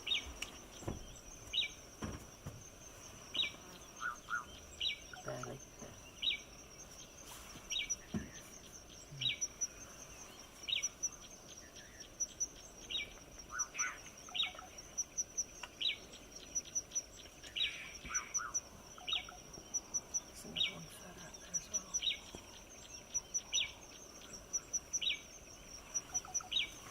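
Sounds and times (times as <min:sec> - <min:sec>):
lower bird calls: 0:00.0 - 0:26.9.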